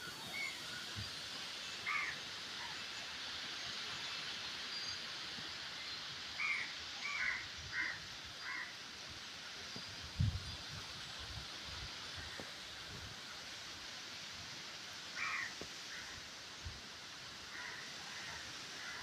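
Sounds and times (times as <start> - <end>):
wind hissing: 0.0 - 6.9, 7.5 - 19.0.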